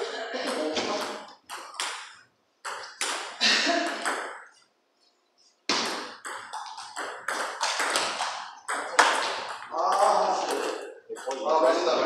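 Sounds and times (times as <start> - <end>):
table tennis balls hitting paddles: 0.4 - 4.7, 5.6 - 11.8.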